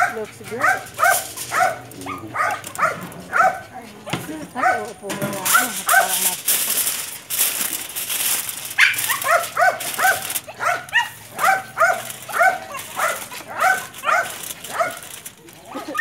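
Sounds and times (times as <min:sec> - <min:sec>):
dog barking: 0:00.0 - 0:06.3, 0:08.8 - 0:16.0.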